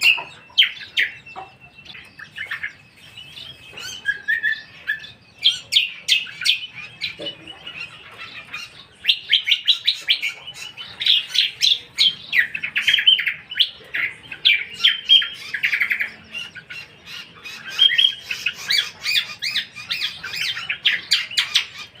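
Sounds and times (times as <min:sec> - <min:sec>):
songbird singing chattering runs: 0:00.0 - 0:22.0.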